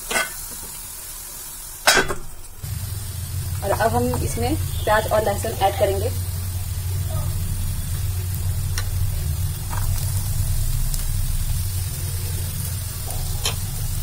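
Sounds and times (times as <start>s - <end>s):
potatoes sizzling in hot oil: 0.0s - 14.0s
steady low hum: 2.0s - 14.0s.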